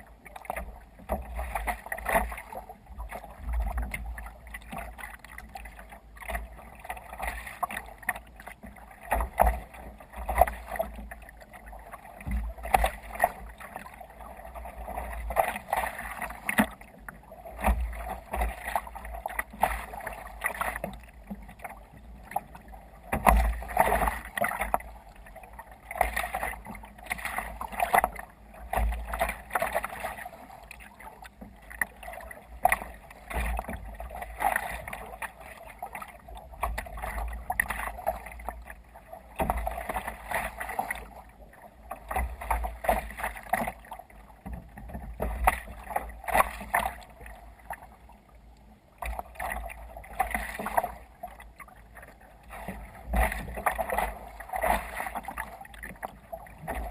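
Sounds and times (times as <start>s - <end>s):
water splashing against kayak hull: 0.0s - 56.9s.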